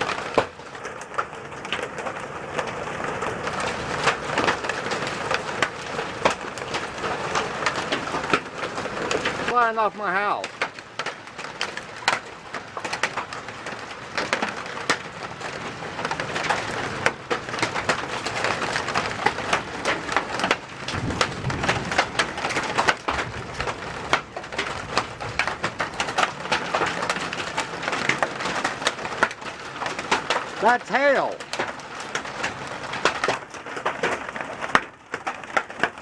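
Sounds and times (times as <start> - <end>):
hail clattering on a house: 0.0 - 36.0.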